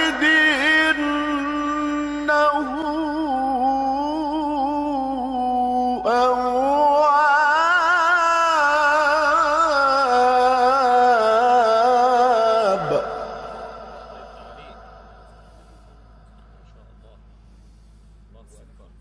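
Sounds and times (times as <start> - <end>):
man reciting in melodic chant: 0.0 - 17.4.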